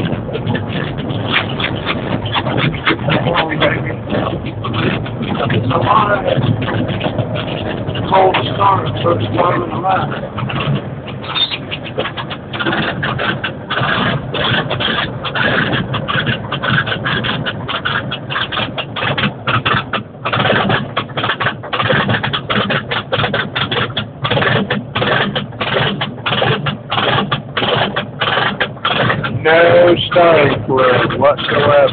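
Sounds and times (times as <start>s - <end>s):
diesel engine clattering: 0.0s - 31.9s.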